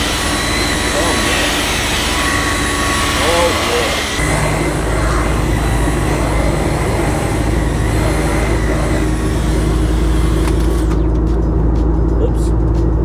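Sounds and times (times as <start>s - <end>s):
vacuum cleaner whine: 0.0s - 11.1s.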